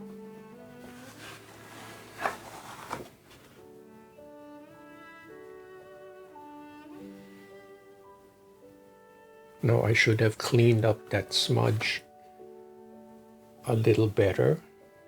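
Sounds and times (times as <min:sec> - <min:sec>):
slow string music: 0:00.0 - 0:15.0.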